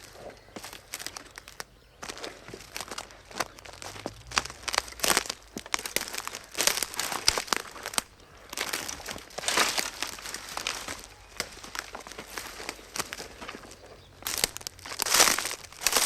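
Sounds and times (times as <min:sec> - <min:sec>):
footsteps crunching through undergrowth: 0:00.0 - 0:16.0.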